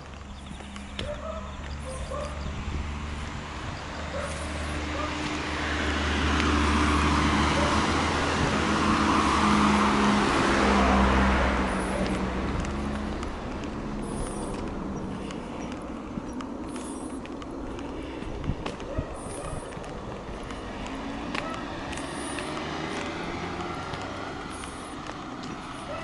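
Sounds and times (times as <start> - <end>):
car driving past: 0.8 - 17.3, 18.9 - 26.0.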